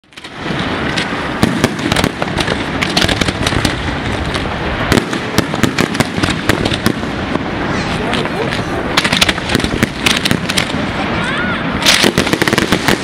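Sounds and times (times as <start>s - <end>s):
fireworks crackling and rumbling: 0.0s - 13.0s
sharp firework bangs: 0.0s - 13.0s.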